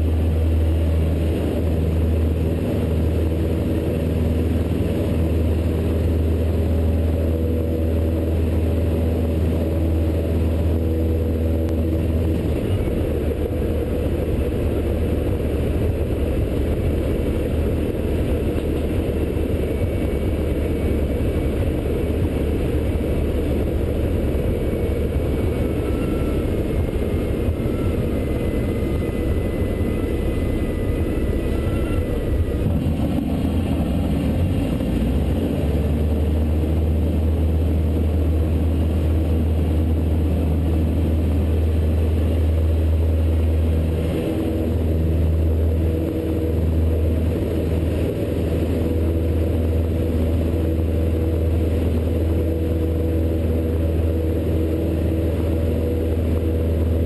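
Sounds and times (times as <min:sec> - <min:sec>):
small plane engine droning in cabin: 0:00.0 - 0:57.0.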